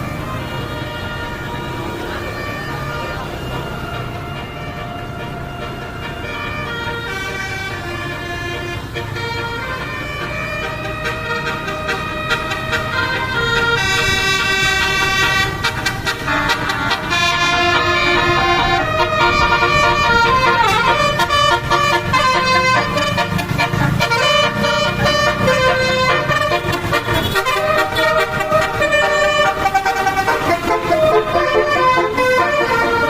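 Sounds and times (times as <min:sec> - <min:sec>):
bus engine rumble: 0:00.0 - 0:33.0
multi-tone air horn melody: 0:00.0 - 0:33.0.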